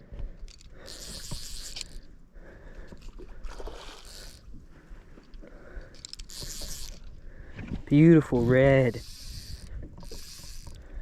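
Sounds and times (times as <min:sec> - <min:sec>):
water sloshing against boat: 0:00.7 - 0:11.0.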